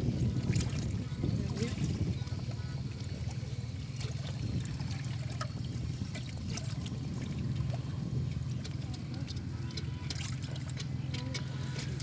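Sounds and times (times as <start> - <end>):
steady low rumble: 0.0 - 12.0
water sloshing and splashing: 0.0 - 12.0.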